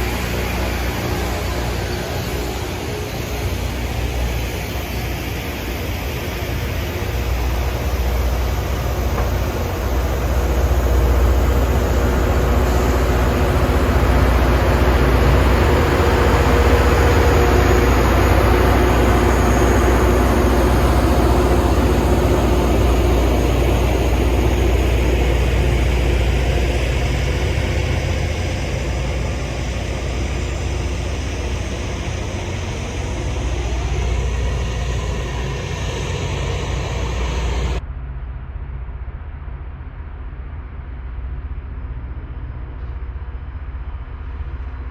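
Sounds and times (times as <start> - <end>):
grinding stones hissing on rail: 0.0 - 37.8
heavy engine rumble: 0.0 - 44.9.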